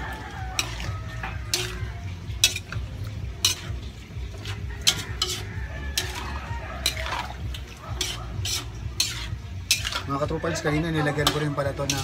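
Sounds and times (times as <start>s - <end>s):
metal utensil scraping a wok: 0.0s - 12.0s.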